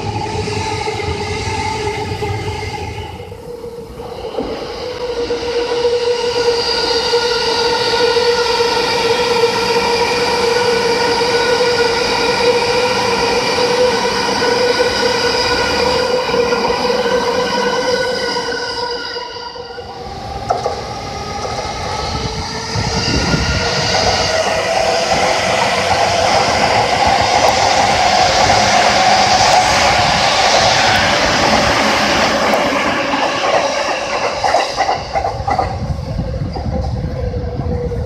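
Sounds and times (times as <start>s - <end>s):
rail noise: 0.0s - 38.0s
train passing: 0.0s - 38.0s.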